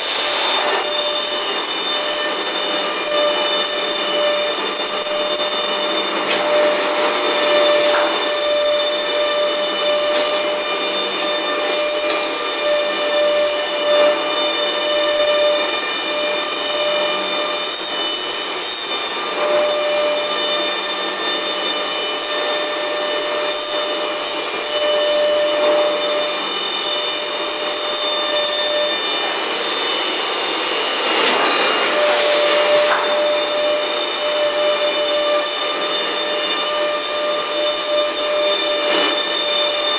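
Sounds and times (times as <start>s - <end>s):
high-pitched spindle whine: 0.0s - 39.9s.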